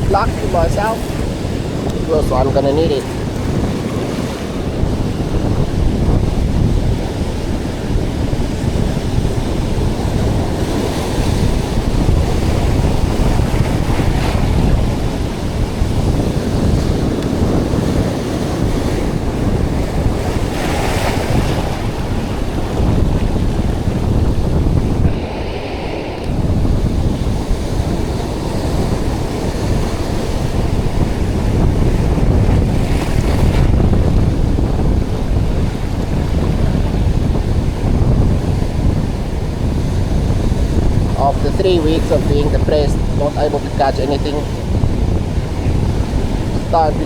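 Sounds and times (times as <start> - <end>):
surf breaking on beach: 0.0 - 47.0
wind buffeting microphone: 0.0 - 47.0.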